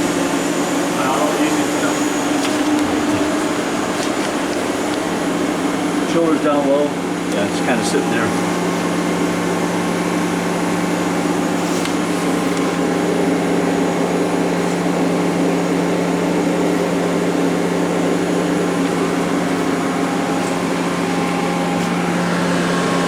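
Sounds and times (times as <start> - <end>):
hydraulic unit running: 0.0 - 23.0.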